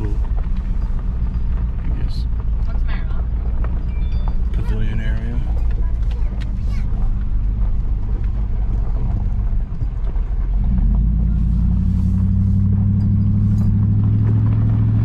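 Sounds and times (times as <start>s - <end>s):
tyres on gravel: 0.0s - 15.0s
vehicle engine drone: 0.0s - 15.0s.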